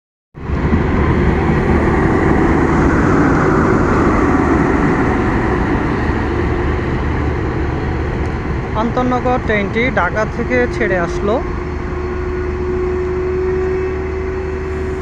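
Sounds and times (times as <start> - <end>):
train wheels rumbling on rails: 0.4 - 15.0.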